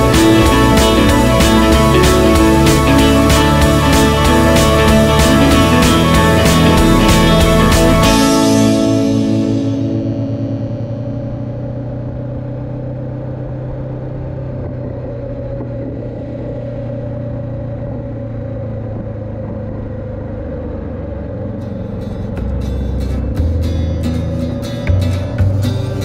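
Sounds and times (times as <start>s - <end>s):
motorcycle engine cruising: 0.0s - 26.0s
road and wind noise: 0.0s - 26.0s.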